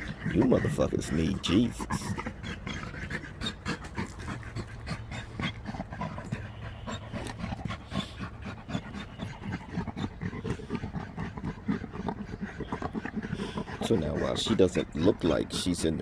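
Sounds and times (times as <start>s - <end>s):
dog panting hard: 0.0s - 16.0s.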